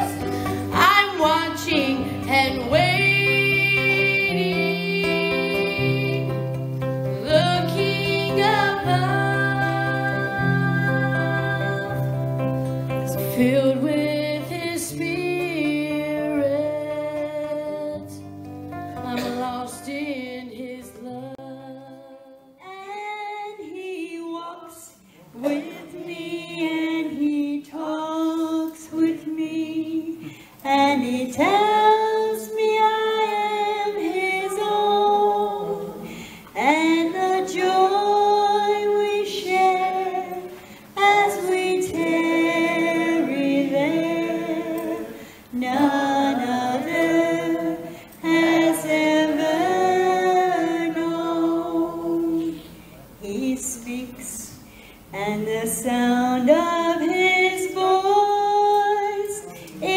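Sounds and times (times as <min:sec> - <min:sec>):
woman singing unaccompanied: 0:00.0 - 0:12.3, 0:13.0 - 0:18.3, 0:19.0 - 0:59.9
acoustic guitar: 0:00.0 - 0:59.9.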